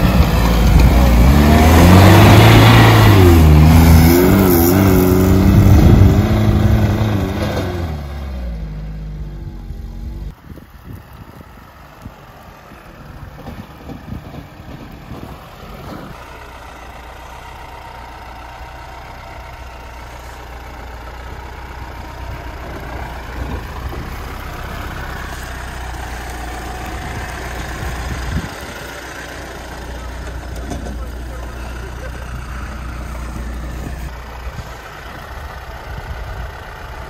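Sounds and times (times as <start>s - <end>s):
car engine running at low revs: 0.0s - 37.0s.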